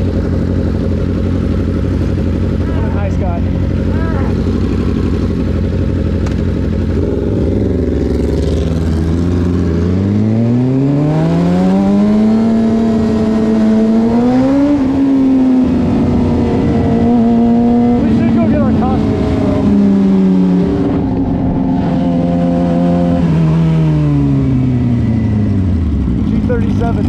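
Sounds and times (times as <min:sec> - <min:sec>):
motorcycle engine idling and accelerating: 0:00.0 - 0:27.0.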